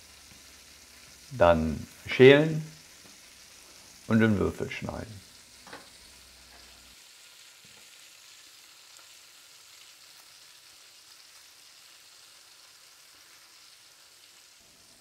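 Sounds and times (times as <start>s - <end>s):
sausages sizzling in fat: 0.0s - 15.0s.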